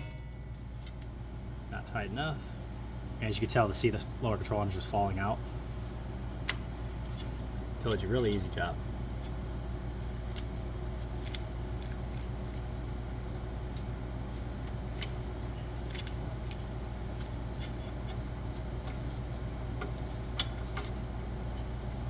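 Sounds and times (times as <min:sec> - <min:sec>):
shop fans humming: 0:00.0 - 0:22.0.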